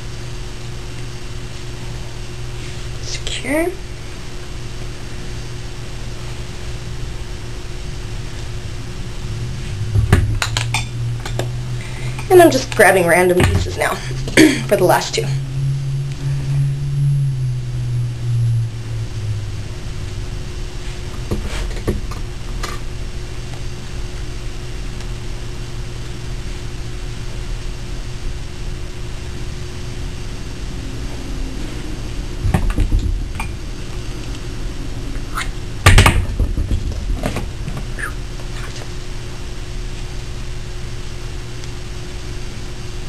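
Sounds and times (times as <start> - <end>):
noise hiss: 0.0 - 36.4
steady low hum: 0.0 - 43.0.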